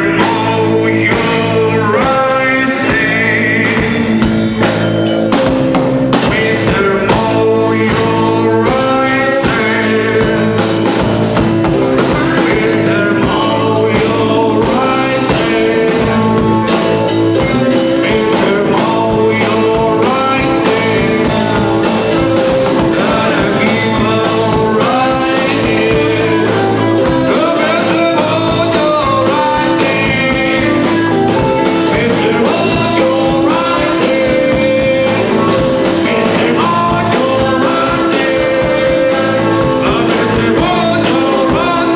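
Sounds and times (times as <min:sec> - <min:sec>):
person singing: 0:00.0 - 0:41.9
rock band playing live: 0:00.0 - 0:41.9.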